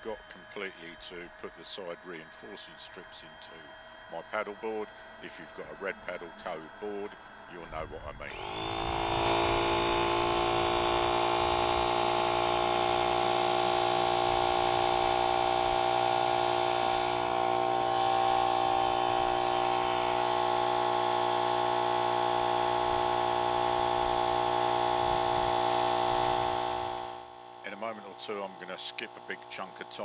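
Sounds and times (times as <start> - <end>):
electric air pump whining: 0.0 - 30.0.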